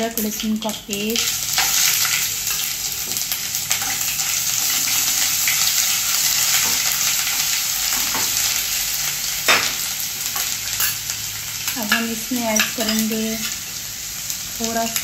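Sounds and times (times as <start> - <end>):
paste sizzling in hot oil: 0.0 - 15.0.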